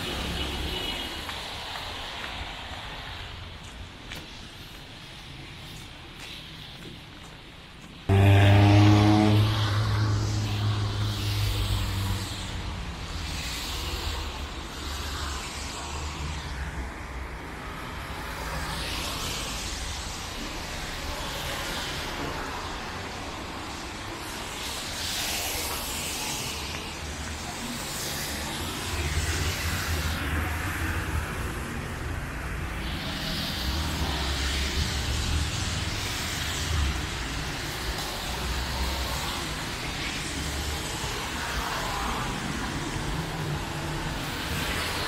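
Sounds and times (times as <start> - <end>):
car engines passing: 0.0 - 6.8, 7.4 - 45.0
tyres hissing through water: 8.7 - 45.0.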